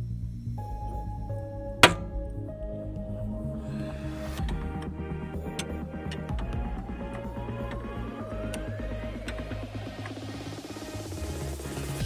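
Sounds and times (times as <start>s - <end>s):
electronic music with synth notes: 0.0s - 12.0s.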